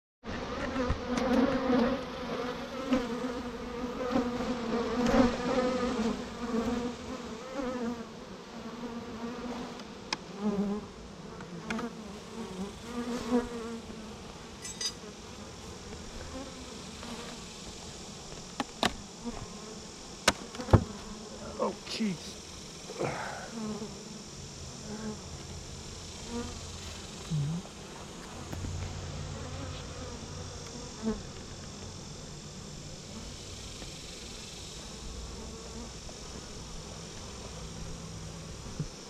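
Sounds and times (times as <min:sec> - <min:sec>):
honeybees buzzing: 0:00.3 - 0:39.0.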